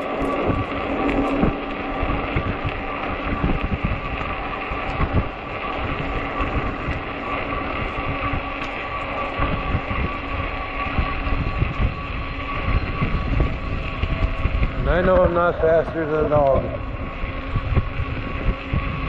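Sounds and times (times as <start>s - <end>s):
electric hub motor humming: 0.0s - 19.0s
wind buffeting microphone: 0.0s - 19.0s.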